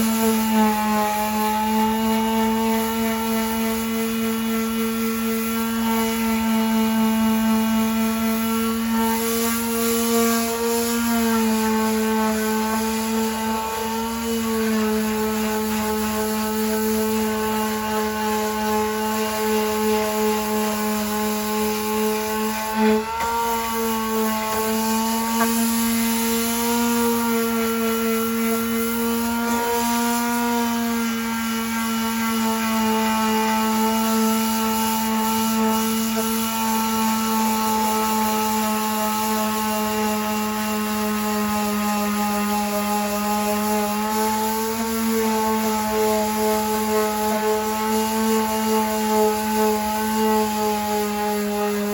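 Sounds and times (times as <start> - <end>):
power sander running: 0.0 - 51.9.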